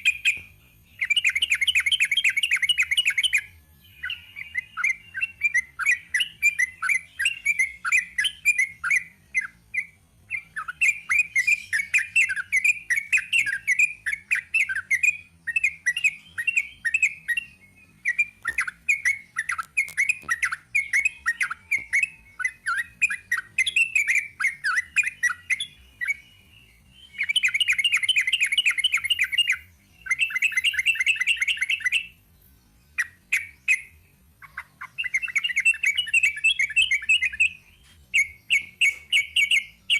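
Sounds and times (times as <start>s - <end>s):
bulbul singing chattering trills: 0.0s - 39.9s.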